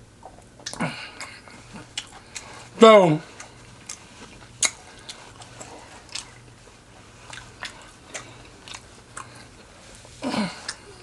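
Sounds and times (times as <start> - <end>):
crunchy chewing of fried chicken: 0.2 - 11.0.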